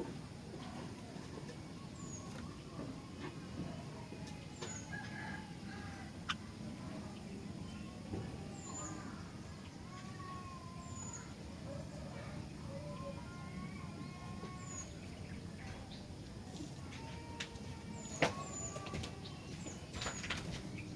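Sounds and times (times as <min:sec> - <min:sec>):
low background noise: 0:00.0 - 0:20.9.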